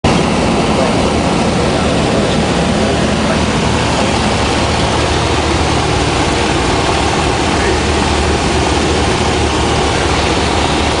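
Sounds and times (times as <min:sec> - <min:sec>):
rushing air noise: 0:00.0 - 0:11.0
light aircraft engine and propeller: 0:00.1 - 0:11.0.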